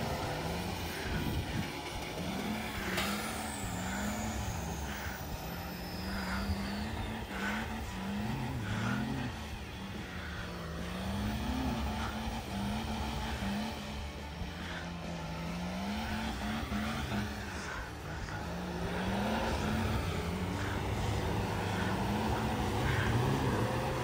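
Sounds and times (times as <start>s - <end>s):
diesel engines revving: 0.0s - 24.0s.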